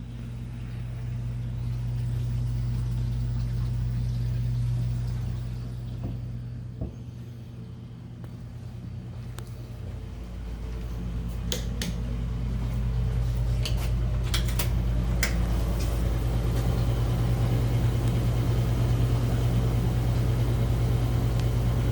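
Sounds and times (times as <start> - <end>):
low motor hum: 0.0 - 21.9.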